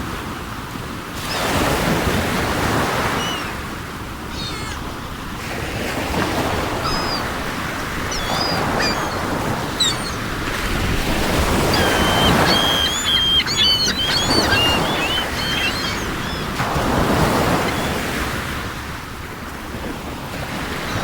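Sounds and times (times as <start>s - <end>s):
surf washing onto shore: 0.0s - 21.0s
seagulls calling: 1.2s - 18.9s.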